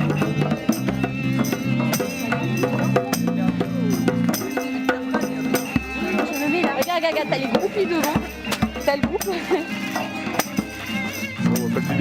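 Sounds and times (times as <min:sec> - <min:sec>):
drums beating: 0:00.0 - 0:12.0
live band playing: 0:00.0 - 0:12.0.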